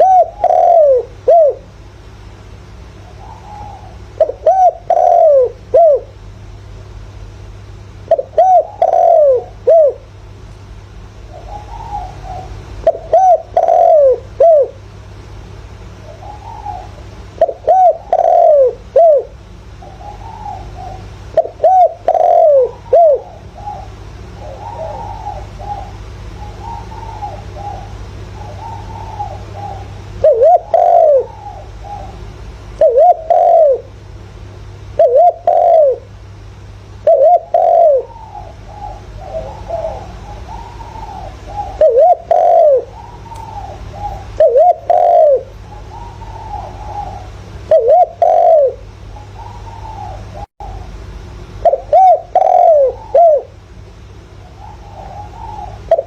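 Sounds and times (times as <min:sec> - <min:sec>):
dove cooing: 0:00.0 - 0:01.7, 0:02.9 - 0:06.2, 0:08.0 - 0:10.2, 0:11.0 - 0:15.0, 0:15.9 - 0:34.0, 0:34.8 - 0:56.0
steady low hum: 0:00.0 - 0:56.0.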